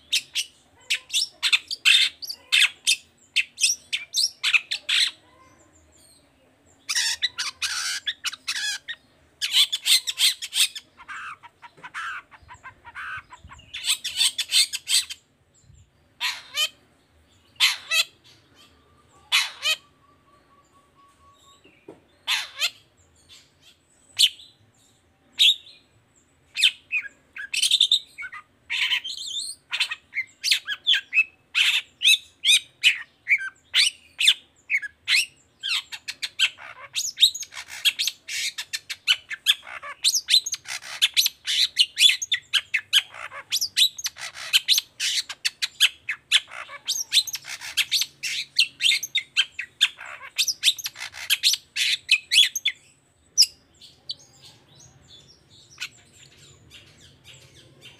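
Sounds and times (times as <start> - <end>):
bird singing sharp chattering notes: 6.7 - 24.6, 26.5 - 57.9.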